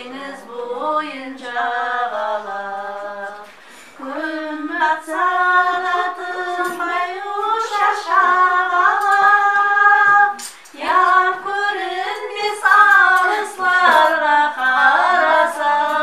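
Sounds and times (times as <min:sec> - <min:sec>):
woman singing folk song: 0:00.0 - 0:16.0.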